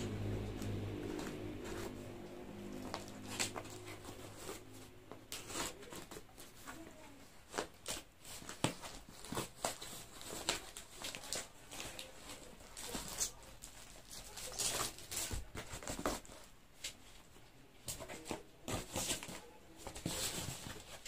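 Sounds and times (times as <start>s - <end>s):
cardboard parcel rustling: 0.0s - 21.0s.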